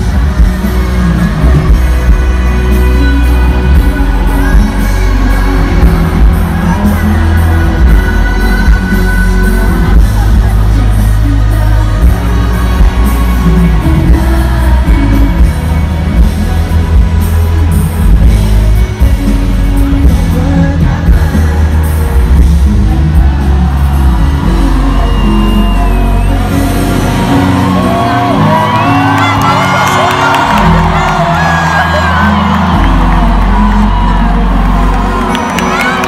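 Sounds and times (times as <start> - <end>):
crowd whooping and cheering: 0.0 - 36.0
live pop music with singing: 0.0 - 36.0.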